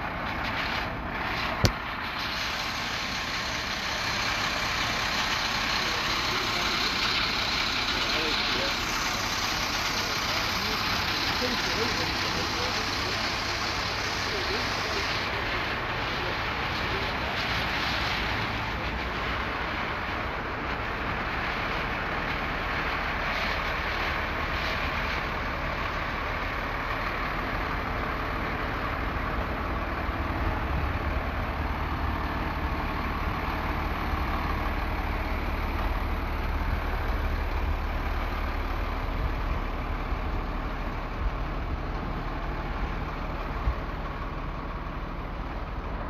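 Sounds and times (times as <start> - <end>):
large engine idling: 0.0 - 46.0.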